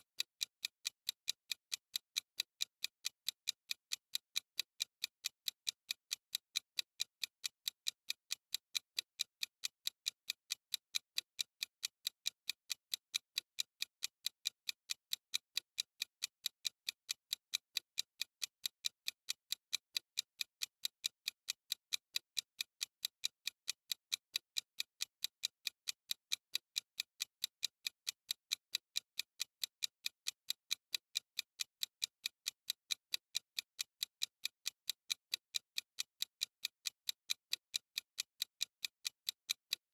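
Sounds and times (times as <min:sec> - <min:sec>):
timer ticking: 0:00.0 - 0:39.9.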